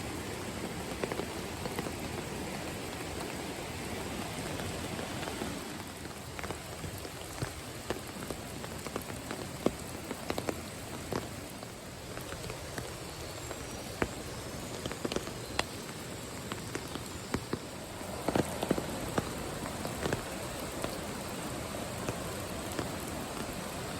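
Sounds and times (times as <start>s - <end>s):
raindrops tapping a surface: 0.0s - 23.9s
steady rain: 0.0s - 23.9s.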